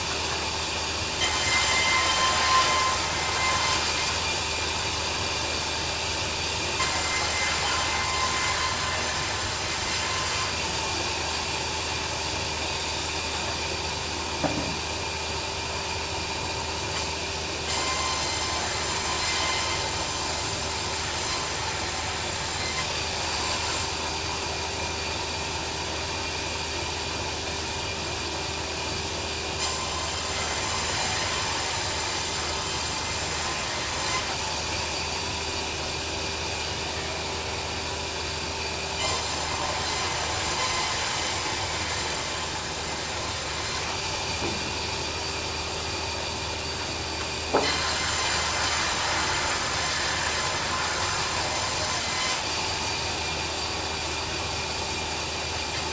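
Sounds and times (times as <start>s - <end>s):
band saw cutting timber: 0.0s - 55.9s.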